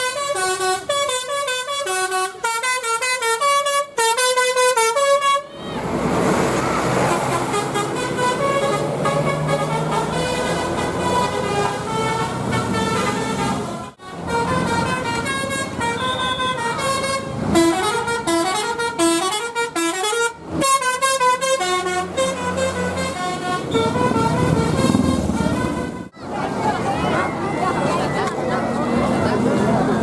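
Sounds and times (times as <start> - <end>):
bus horn playing melody: 0.0 - 5.7, 6.5 - 26.2.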